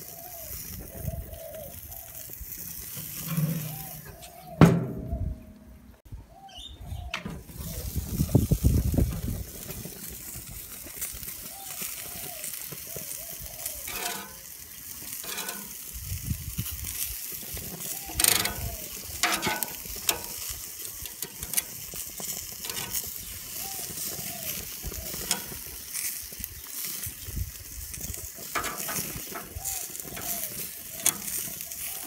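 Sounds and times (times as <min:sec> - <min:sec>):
sausages sizzling on grill: 0:00.0 - 0:04.6, 0:07.4 - 0:32.0.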